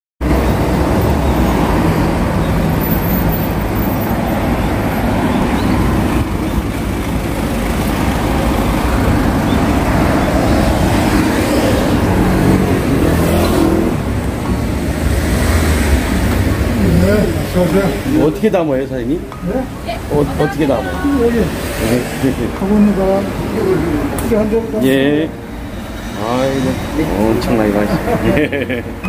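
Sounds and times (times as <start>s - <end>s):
city road traffic: 0.2s - 29.0s.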